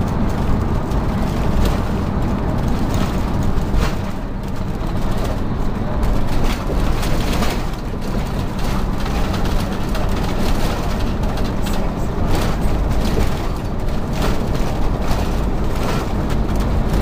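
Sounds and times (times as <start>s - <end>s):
interior rattles and knocks: 0.0s - 17.0s
road and engine rumble: 0.0s - 17.0s.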